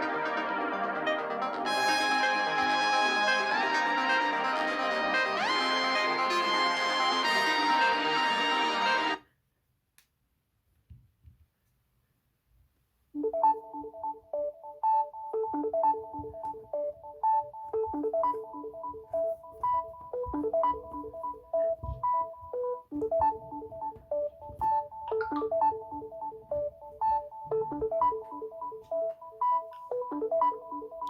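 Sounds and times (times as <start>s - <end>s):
phone ringtone melody: 0.0s - 9.2s, 13.2s - 31.0s.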